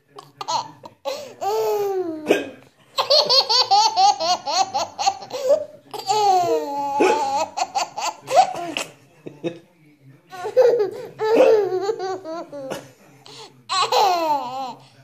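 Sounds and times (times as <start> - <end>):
baby laughing: 0.2 - 9.0, 10.3 - 14.8.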